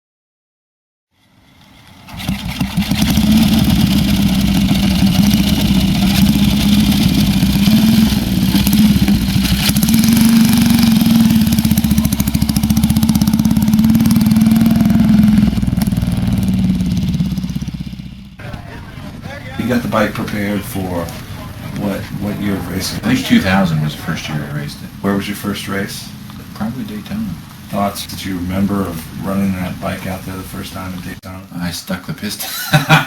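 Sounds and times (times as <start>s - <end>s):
motorcycle engine running: 1.3s - 31.2s.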